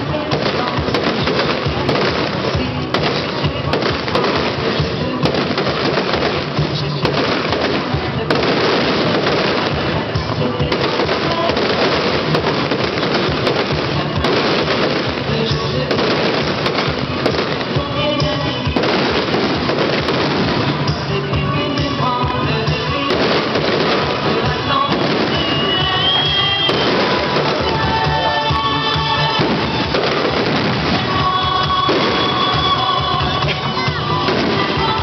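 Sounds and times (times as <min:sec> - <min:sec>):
fireworks bangs and crackling: 0:00.0 - 0:35.0
music playing: 0:00.0 - 0:35.0.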